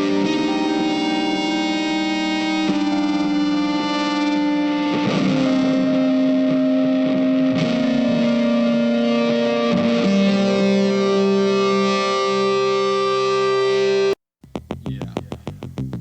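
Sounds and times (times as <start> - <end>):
music with long held notes: 0.0 - 16.0.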